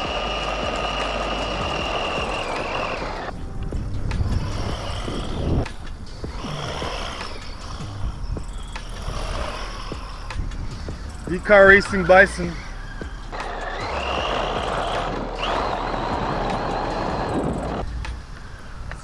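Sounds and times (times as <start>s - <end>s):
electric motor whine: 0.0s - 19.0s
low rumble: 0.0s - 19.0s.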